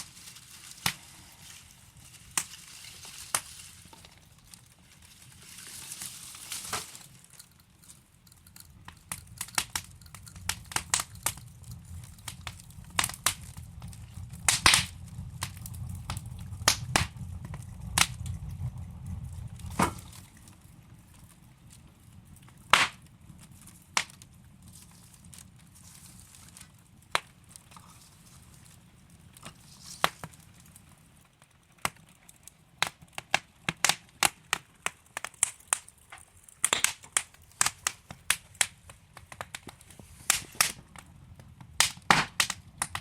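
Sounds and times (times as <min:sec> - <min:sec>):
logs burning in a fireplace: 0:00.0 - 0:43.0.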